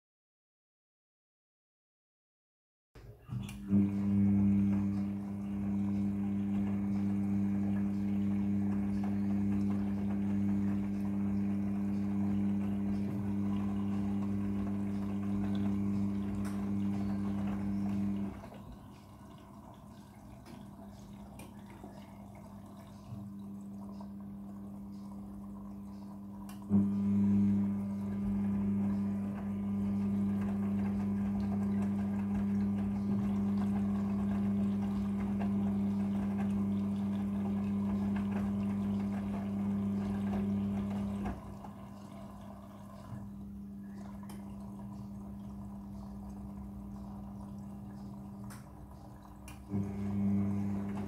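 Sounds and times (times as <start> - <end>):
washing machine motor humming: 3.0 - 51.0
water dripping: 3.3 - 51.0
water sloshing: 4.5 - 51.0.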